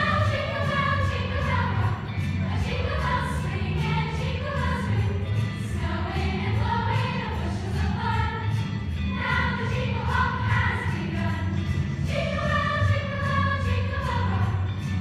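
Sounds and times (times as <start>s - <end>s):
choir singing: 0.0s - 8.5s, 9.1s - 14.6s.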